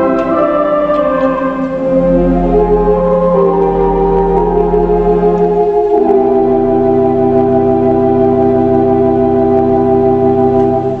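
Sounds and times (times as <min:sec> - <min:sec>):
theatre organ chords: 0:00.0 - 0:11.0.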